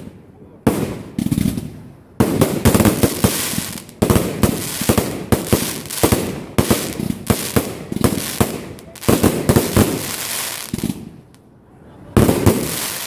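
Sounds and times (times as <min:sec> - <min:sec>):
fireworks bangs and crackles: 0:00.0 - 0:11.4, 0:12.1 - 0:13.0.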